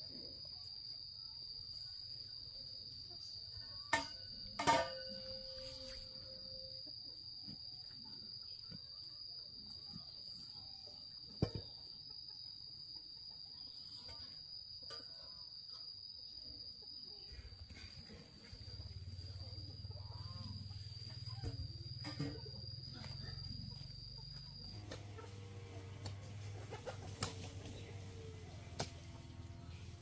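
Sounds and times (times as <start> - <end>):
high-pitched insect trill: 0.0 - 25.9.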